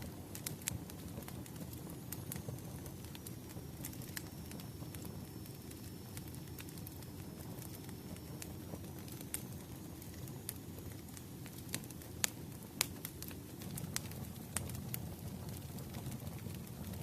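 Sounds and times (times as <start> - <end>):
fire crackling and popping: 0.0 - 17.0
flames rumbling: 0.0 - 17.0.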